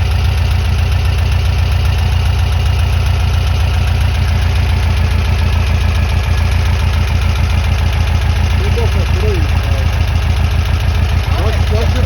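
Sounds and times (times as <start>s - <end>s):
engine idling with fast pulsing: 0.0s - 12.0s.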